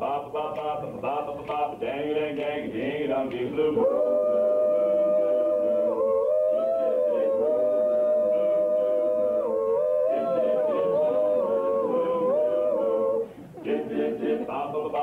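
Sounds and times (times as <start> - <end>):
male vocal group singing a cappella: 0.0 - 15.0.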